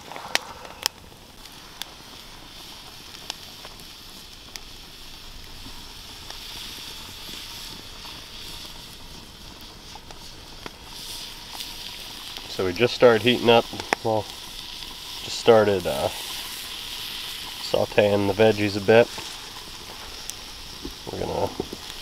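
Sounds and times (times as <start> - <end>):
campfire crackling: 0.0 - 22.0
vegetables sizzling in a pot: 0.0 - 22.0.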